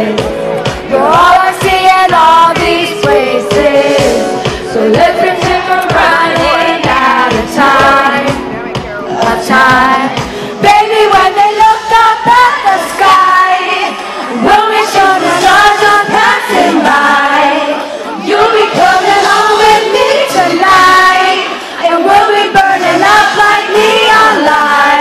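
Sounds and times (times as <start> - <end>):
live pop song with vocals: 0.0 - 25.0.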